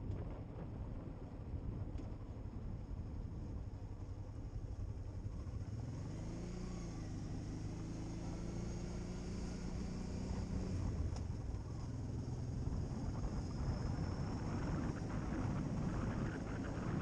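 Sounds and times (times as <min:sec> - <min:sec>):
wind rumbling on microphone: 0:00.0 - 0:07.0, 0:09.7 - 0:17.0
motorcycle engine running: 0:00.0 - 0:17.0.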